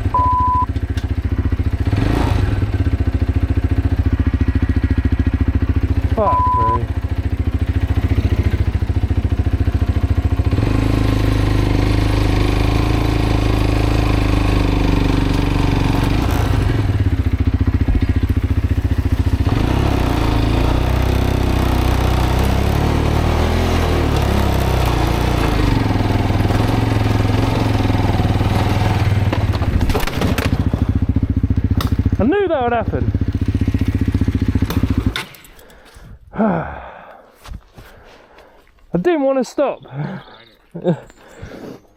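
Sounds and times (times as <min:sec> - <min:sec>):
motorcycle engine revving: 0:00.0 - 0:35.6.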